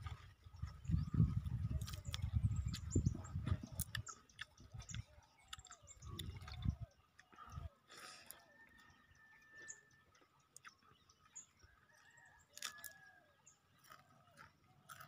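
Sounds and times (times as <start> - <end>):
person eating and chewing: 0.0 - 9.2, 10.0 - 11.6, 12.4 - 15.0.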